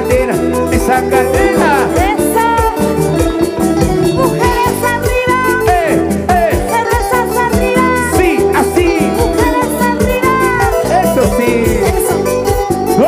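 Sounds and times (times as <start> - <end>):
latin dance music: 0.0 - 13.0.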